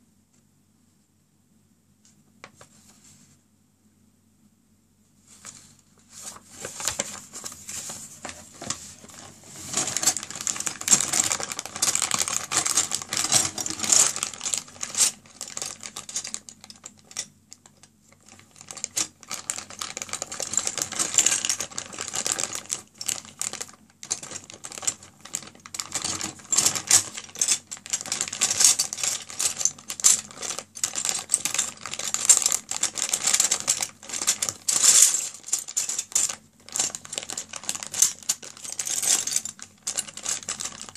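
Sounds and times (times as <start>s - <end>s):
plastic bag crinkling: 6.2s - 17.2s, 18.2s - 40.9s
plastic pieces clattering: 6.3s - 40.9s.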